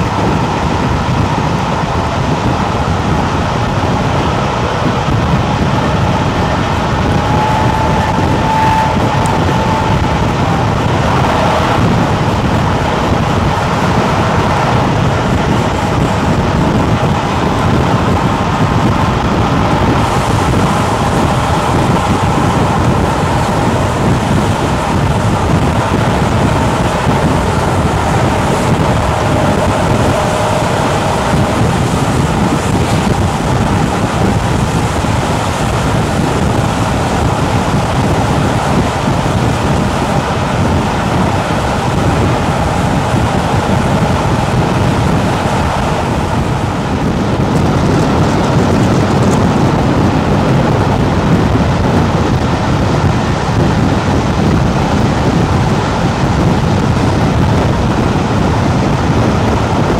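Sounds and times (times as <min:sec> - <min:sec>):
train rumbling on rails: 0:00.0 - 0:59.9
wind noise on microphone: 0:00.0 - 0:59.9.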